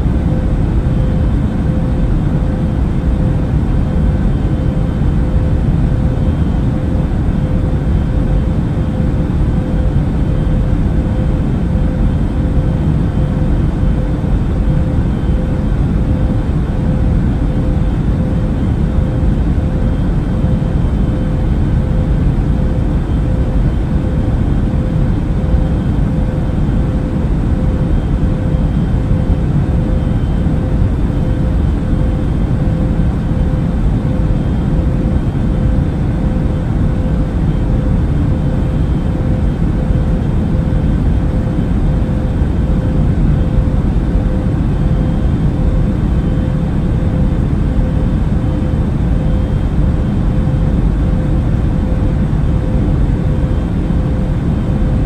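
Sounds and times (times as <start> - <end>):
airplane engine and air rumble: 0.0 - 55.0
faint steady hum: 0.0 - 55.0.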